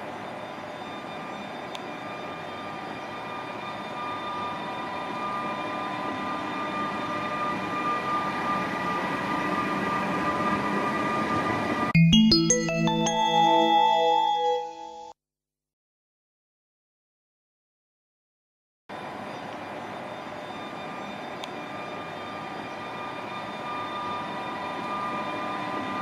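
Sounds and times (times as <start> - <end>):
electric locomotive hum: 0.0 - 14.5, 19.0 - 26.0.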